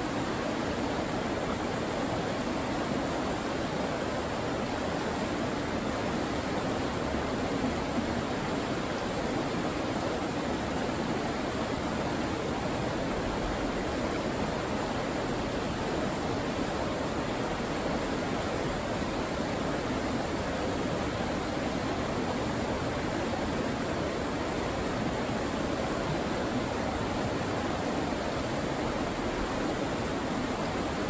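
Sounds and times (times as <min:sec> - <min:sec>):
river rapids rushing over rocks: 0:00.0 - 0:31.0.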